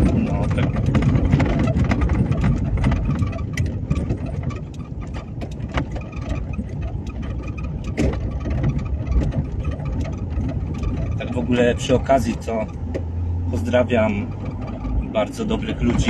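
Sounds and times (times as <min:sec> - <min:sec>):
car engine and road rumble: 0:00.0 - 0:16.0
wind buffeting microphone: 0:00.0 - 0:16.0.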